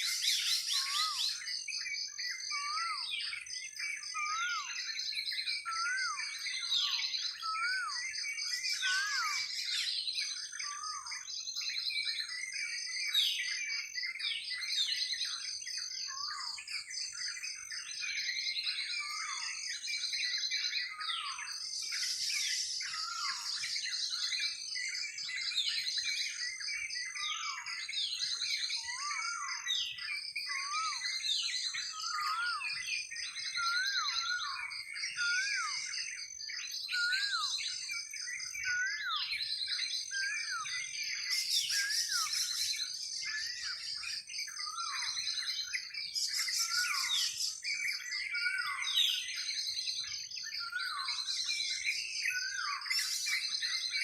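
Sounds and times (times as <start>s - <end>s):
songbirds chirping and whistling: 0.0s - 54.0s.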